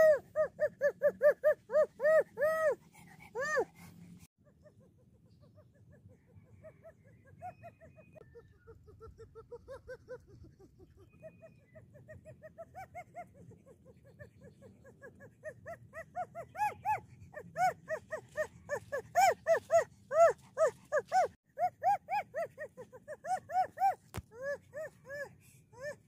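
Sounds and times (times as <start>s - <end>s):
dog yelping: 0.0s - 26.0s.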